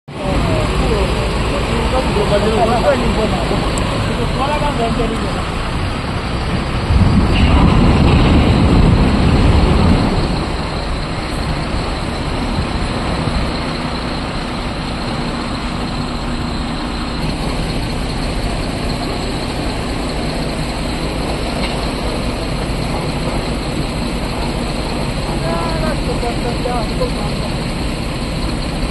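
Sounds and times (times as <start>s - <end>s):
diesel truck engine revving: 0.1s - 28.9s.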